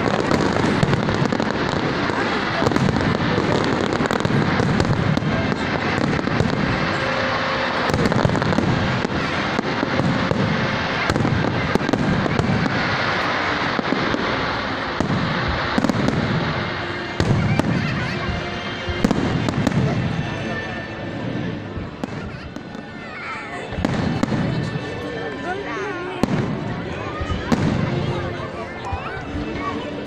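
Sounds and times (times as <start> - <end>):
fireworks cracking and crackling: 0.0 - 30.0.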